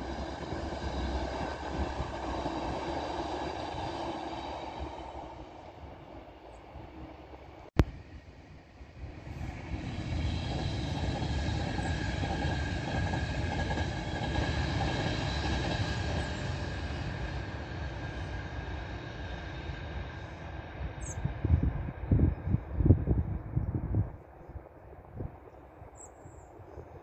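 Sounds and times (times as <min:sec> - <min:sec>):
train wheels rumbling on rail: 0:00.0 - 0:24.2.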